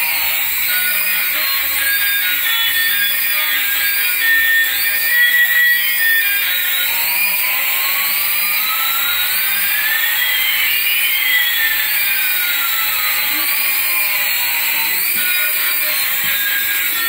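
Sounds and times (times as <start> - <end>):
toy helicopter rotors whining: 0.0 - 17.0.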